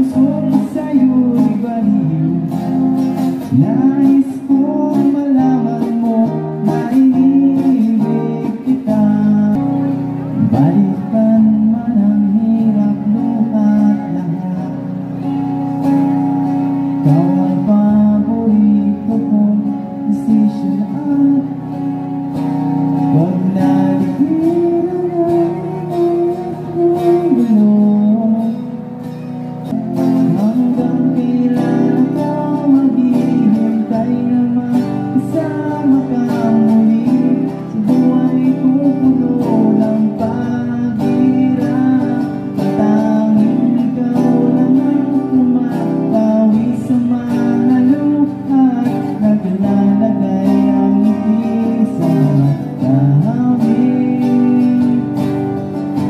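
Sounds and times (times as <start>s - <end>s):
man singing into a microphone: 0.0s - 29.0s, 29.8s - 56.0s
guitar strumming: 0.0s - 56.0s.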